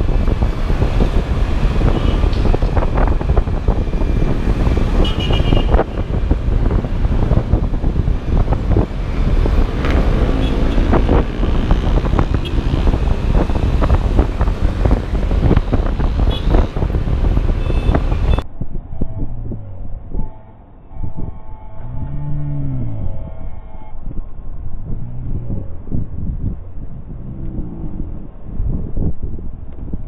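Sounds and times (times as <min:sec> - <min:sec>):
traffic and road noise: 0:00.0 - 0:30.0
wind buffeting microphone: 0:00.0 - 0:30.0.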